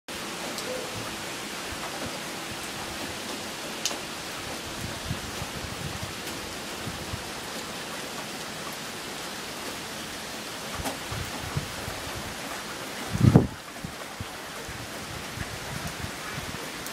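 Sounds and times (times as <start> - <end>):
steady rain hissing: 0.1 - 16.9.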